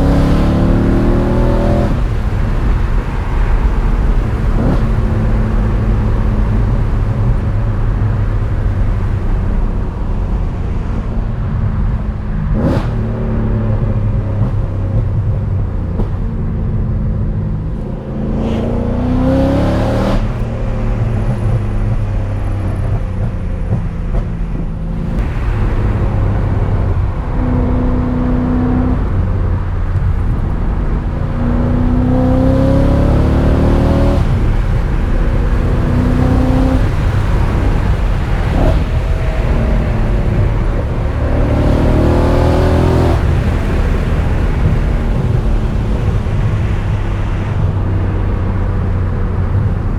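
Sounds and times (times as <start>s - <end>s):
car engine accelerating: 0.0s - 49.9s
road noise: 0.0s - 49.9s.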